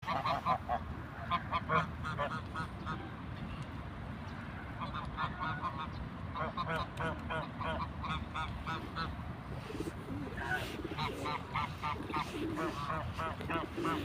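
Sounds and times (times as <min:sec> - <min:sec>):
ducks and geese honking and quacking: 0:00.0 - 0:03.3, 0:04.4 - 0:14.0.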